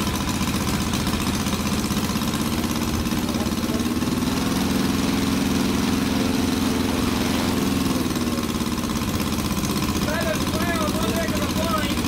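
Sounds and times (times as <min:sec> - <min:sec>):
model aircraft engine running: 0:00.0 - 0:12.0.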